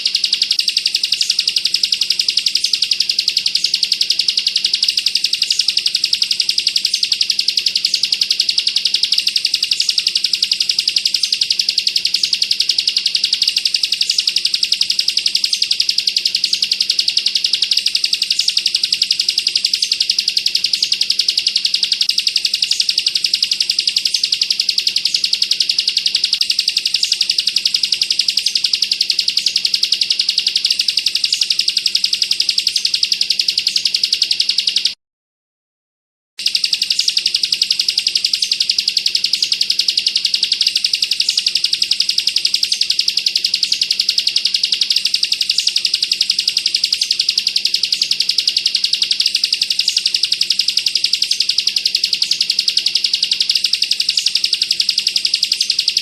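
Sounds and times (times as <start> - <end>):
bird rapid high trill: 0.0 - 35.0, 36.4 - 56.0.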